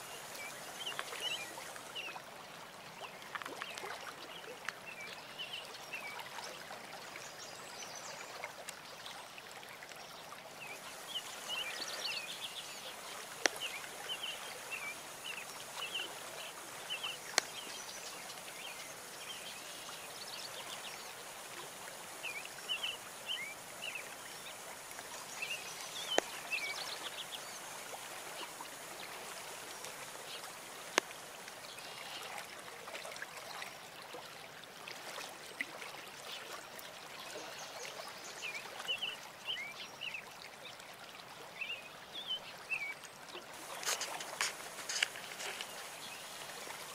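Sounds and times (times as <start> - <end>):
trickle of running water: 0.0 - 46.9.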